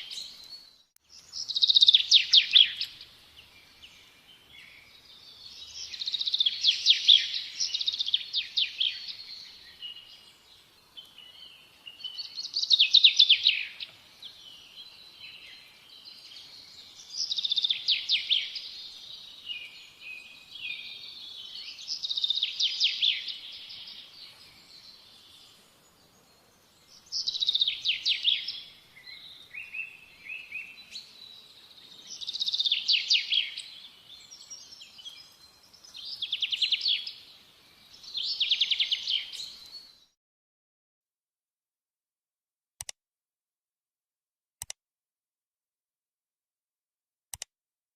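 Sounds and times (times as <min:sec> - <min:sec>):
soft bird chirps: 0:00.0 - 0:40.2
songbird singing: 0:00.0 - 0:40.2.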